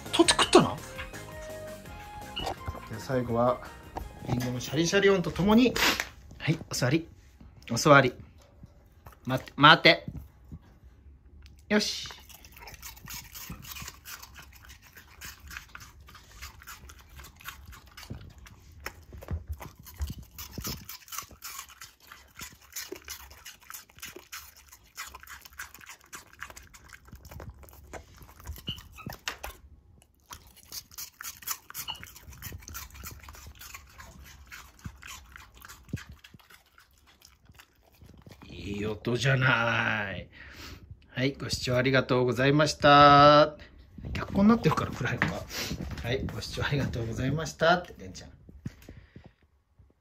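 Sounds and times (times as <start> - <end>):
puppy crunching apple: 0.0 - 7.0, 7.6 - 10.5, 11.4 - 39.9, 43.9 - 49.0.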